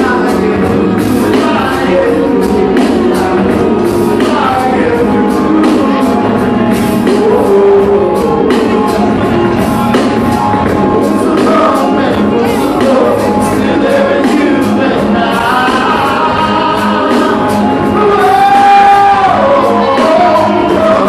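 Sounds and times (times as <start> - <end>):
man singing through loud pa: 0.0 - 9.3, 10.8 - 21.0
steady drum beat: 0.0 - 21.0.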